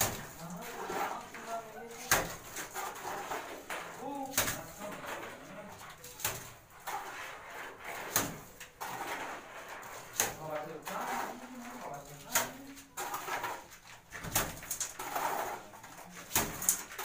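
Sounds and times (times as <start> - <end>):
trowel scooping mortar: 0.1 - 17.0.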